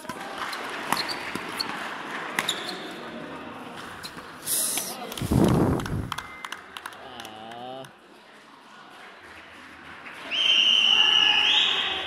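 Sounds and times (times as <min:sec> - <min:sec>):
background chatter: 0:00.0 - 0:12.0.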